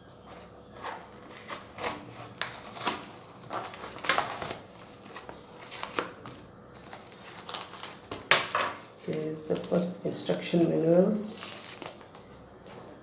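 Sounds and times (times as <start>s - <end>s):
packaging rustling and crinkling: 0.1s - 13.0s.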